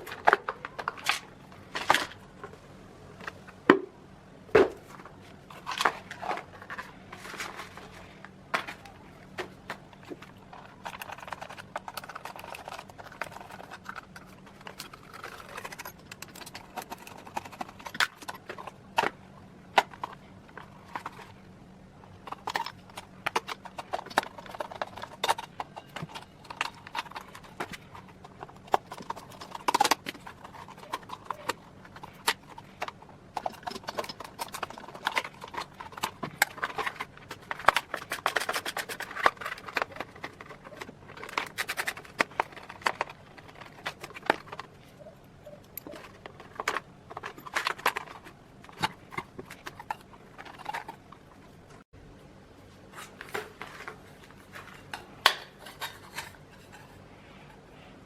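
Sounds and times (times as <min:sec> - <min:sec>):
scraping and handling: 0:00.0 - 0:03.8, 0:04.5 - 0:51.9, 0:52.5 - 0:58.0.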